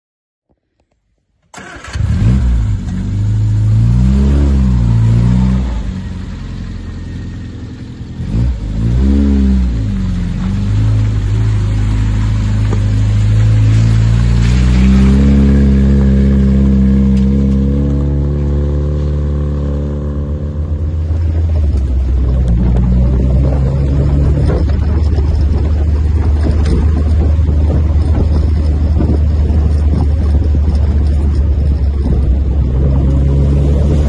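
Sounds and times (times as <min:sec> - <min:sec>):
car engine revving: 0:01.6 - 0:34.0.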